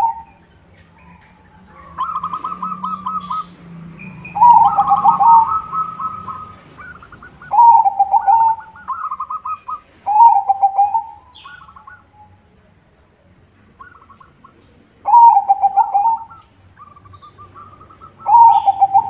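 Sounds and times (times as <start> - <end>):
quieter higher cooing: 0.0 - 0.4, 1.0 - 12.3, 15.1 - 19.0
dove cooing: 0.0 - 12.4, 13.8 - 19.0.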